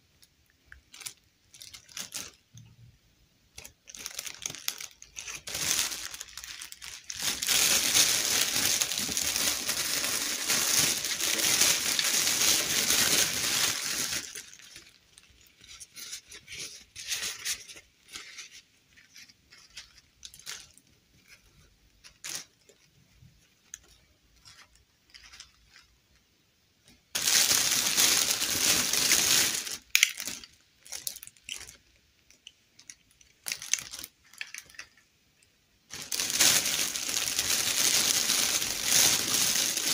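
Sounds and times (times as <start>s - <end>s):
soft rustles of doll clothes: 0.1s - 39.9s
plastic bag crinkling: 0.7s - 2.6s, 3.6s - 20.9s, 21.5s - 25.9s, 27.1s - 35.0s, 35.9s - 39.9s.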